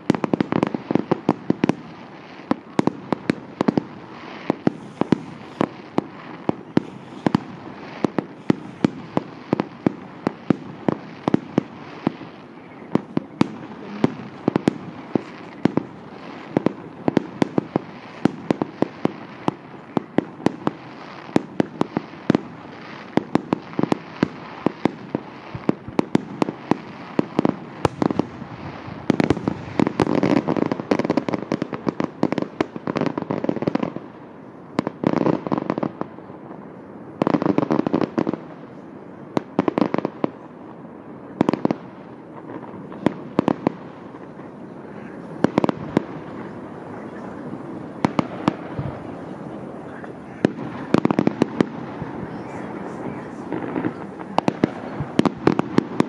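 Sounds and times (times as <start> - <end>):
fireworks bursting: 0.0 - 56.0
fireworks crackling: 0.0 - 56.0.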